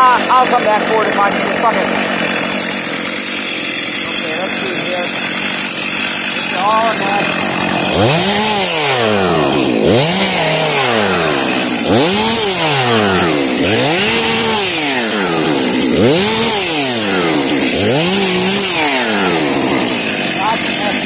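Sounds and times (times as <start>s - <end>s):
chainsaw revving: 0.0s - 21.0s.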